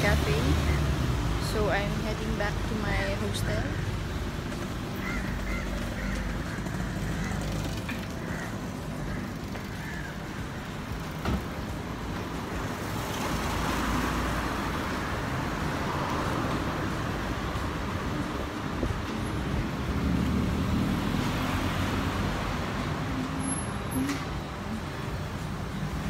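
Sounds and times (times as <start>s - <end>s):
low rumble of engines: 0.0s - 26.0s.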